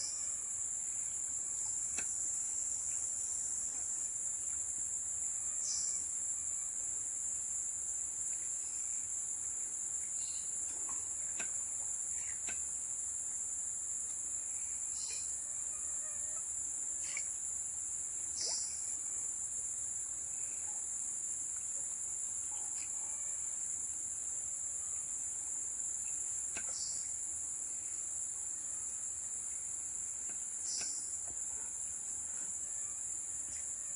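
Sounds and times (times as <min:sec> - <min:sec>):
insect chorus buzzing: 0:00.0 - 0:33.9.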